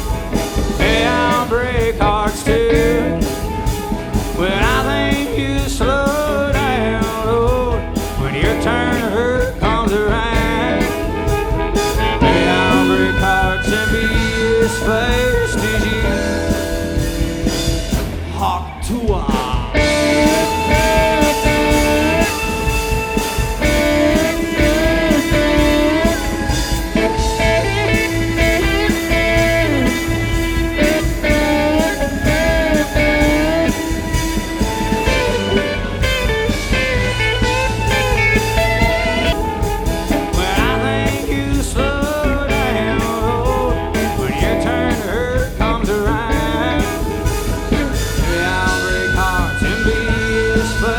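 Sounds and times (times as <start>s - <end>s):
person singing: 0.0s - 17.7s, 18.3s - 50.9s
bass guitar: 0.0s - 50.9s
drums: 0.0s - 50.9s
electric guitar: 0.0s - 50.9s.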